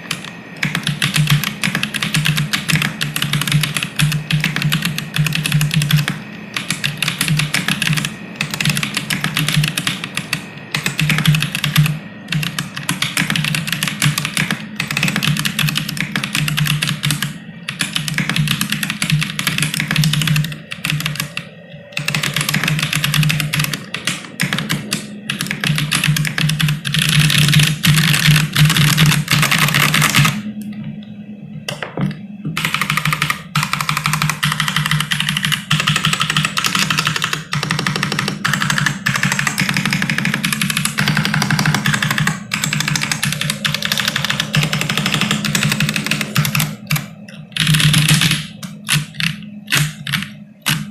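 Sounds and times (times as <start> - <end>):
mechanical keyboard typing: 0.0 - 30.4, 32.6 - 50.9.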